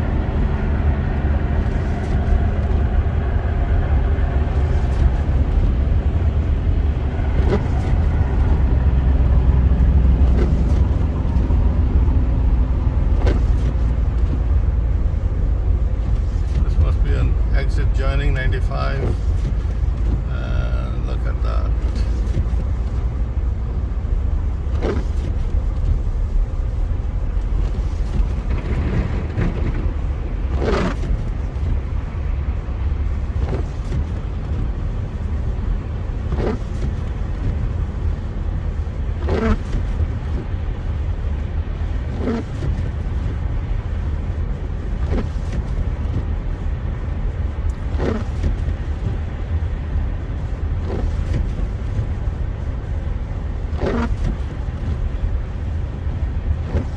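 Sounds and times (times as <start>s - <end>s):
car engine and tyre rumble: 0.0s - 56.9s
windshield wiper sweep: 0.0s - 56.9s.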